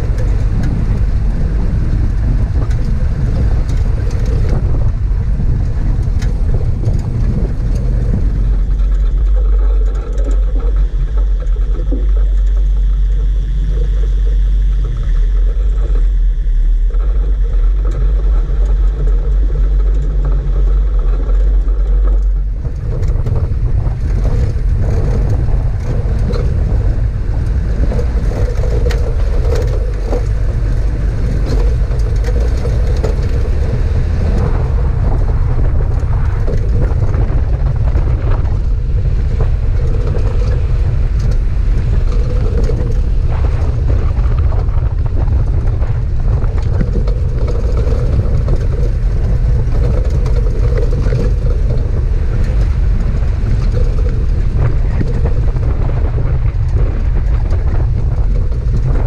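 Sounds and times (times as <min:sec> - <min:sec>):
vehicle engine and tyres droning: 0:00.0 - 0:59.0.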